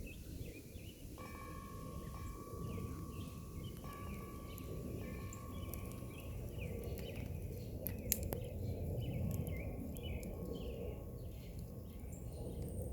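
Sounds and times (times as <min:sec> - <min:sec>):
songbirds singing: 0:00.0 - 0:12.9.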